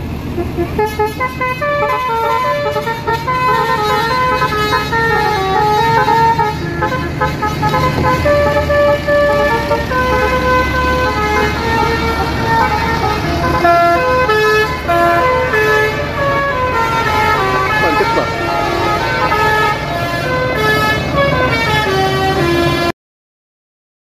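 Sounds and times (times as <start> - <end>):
diesel engine running: 0.0 - 22.9
bus horn playing a tune: 0.0 - 23.0.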